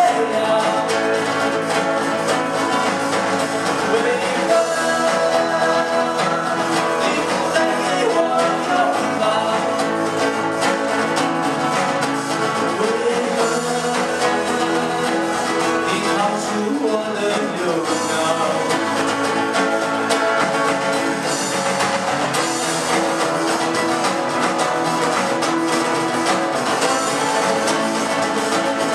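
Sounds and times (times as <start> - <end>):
electric guitar: 0.0 - 28.9
instrumental pop-rock band: 0.0 - 28.9.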